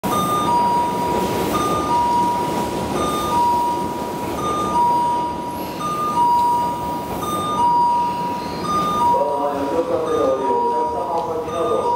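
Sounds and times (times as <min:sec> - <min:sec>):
electric train pulling in: 0:00.0 - 0:11.9.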